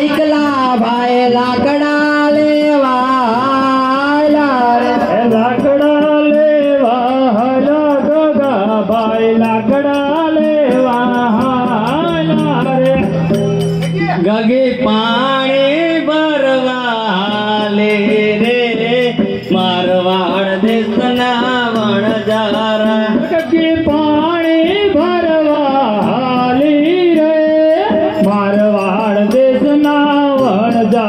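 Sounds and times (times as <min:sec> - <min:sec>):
instrumental accompaniment: 0:00.0 - 0:31.0
person singing into a microphone: 0:00.0 - 0:31.0.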